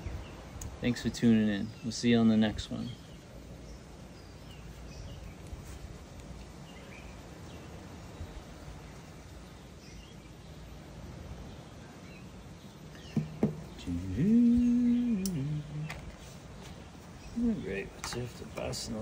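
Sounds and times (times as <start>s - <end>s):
faint bird chirps: 0.0s - 5.8s, 6.4s - 18.9s
low background noise: 0.0s - 19.0s.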